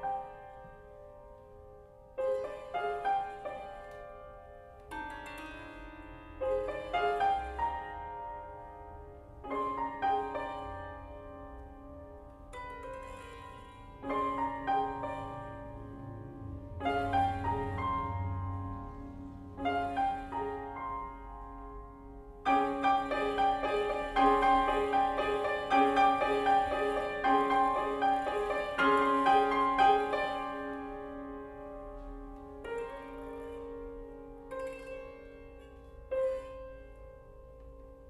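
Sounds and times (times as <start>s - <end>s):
grand piano playing chords: 0.0s - 38.0s.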